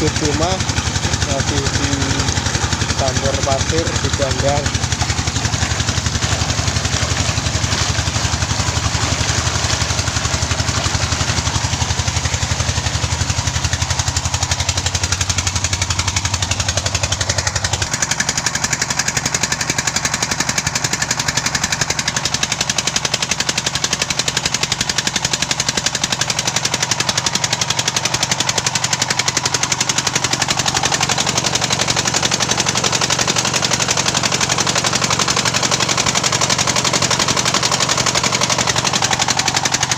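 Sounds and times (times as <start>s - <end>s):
engine chugging: 0.0s - 39.9s.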